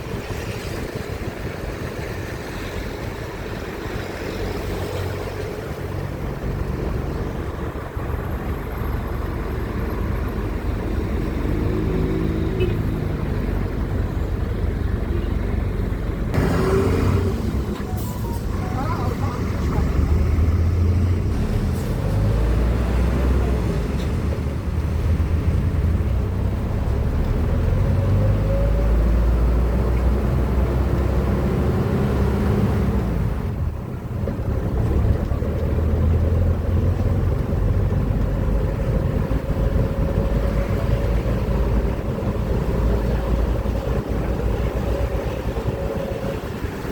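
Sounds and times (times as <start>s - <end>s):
street traffic rumble: 0.0s - 46.9s.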